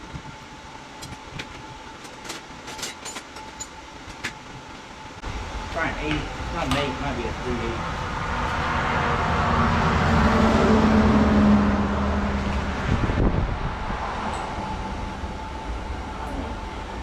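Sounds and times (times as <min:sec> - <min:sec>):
air compressor droning hum: 0:00.0 - 0:17.0.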